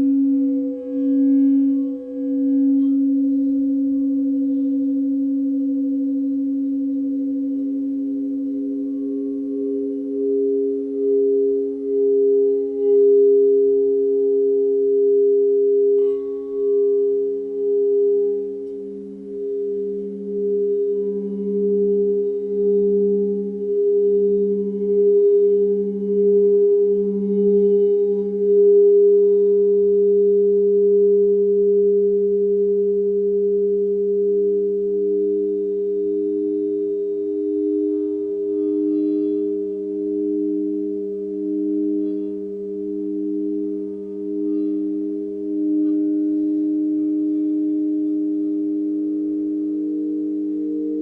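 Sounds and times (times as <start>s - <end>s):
singing bowls ringing: 0.0s - 51.0s.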